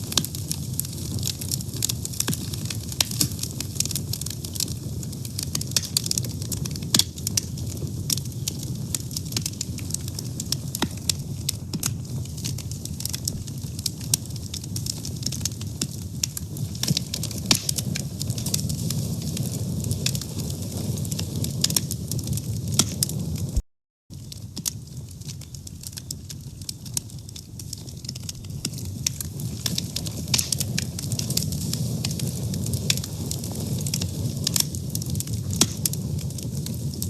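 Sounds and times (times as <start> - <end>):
burning wood crackling and popping: 0.0 - 37.0
low rumble of flames: 0.0 - 37.0.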